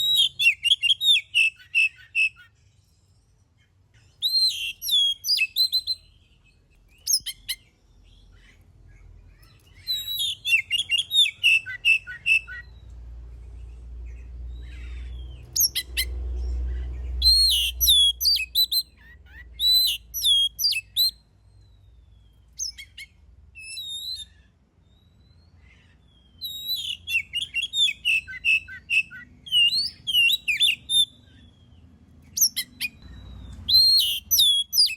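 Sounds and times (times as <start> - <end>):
bird singing: 0.0 - 34.9.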